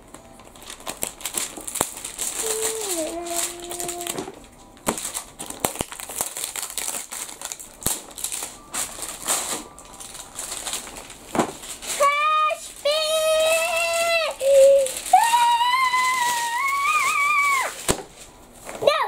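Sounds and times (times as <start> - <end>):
plastic shrink-wrap tearing and crinkling: 0.0 - 19.0.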